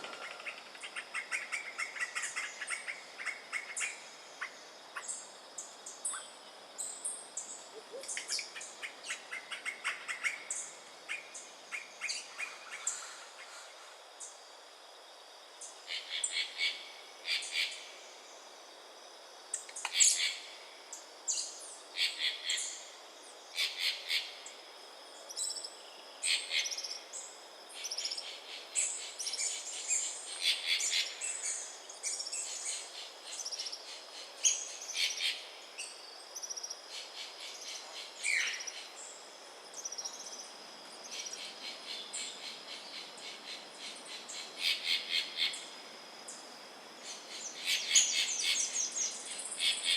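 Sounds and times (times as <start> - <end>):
faint insect hum: 0.0 - 49.9.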